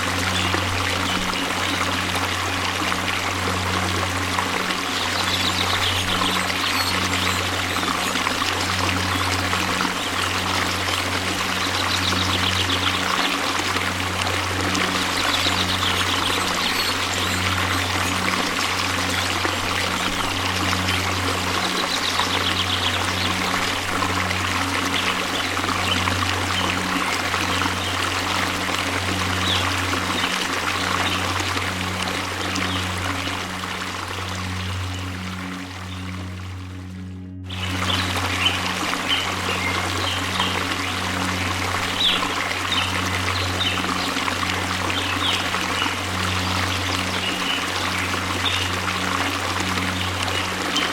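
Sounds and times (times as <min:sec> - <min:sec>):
low hum: 0:00.0 - 0:50.9
rush of falling water: 0:00.0 - 0:50.9.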